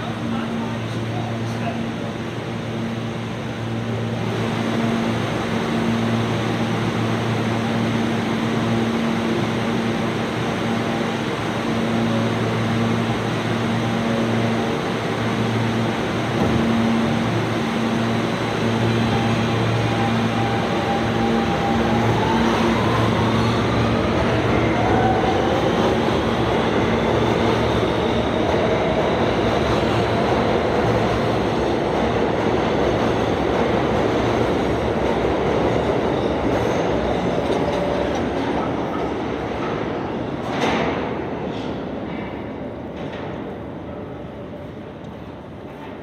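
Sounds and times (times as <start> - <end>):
subway train motor whine: 0.0 - 40.4
heavy rail running noise: 0.0 - 46.0.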